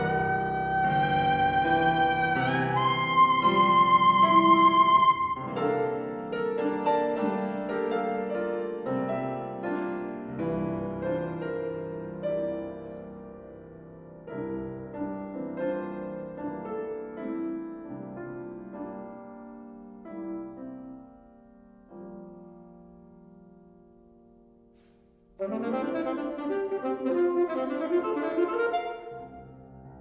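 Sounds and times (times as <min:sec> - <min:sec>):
grand piano playing: 0:00.0 - 0:30.0.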